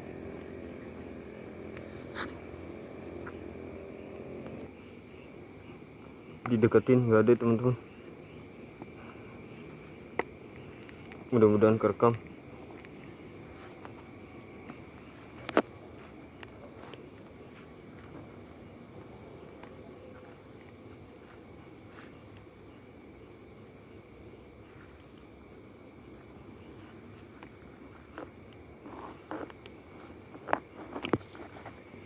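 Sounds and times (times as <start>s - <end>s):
low steady rumble: 0.0s - 29.0s
night insects trilling: 0.0s - 32.0s.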